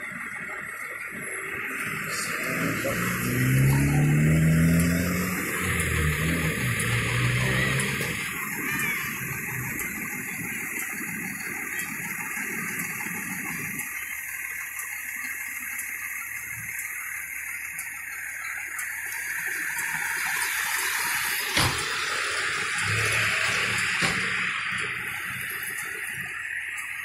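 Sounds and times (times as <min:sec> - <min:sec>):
fire engine passing: 0:00.0 - 0:27.0.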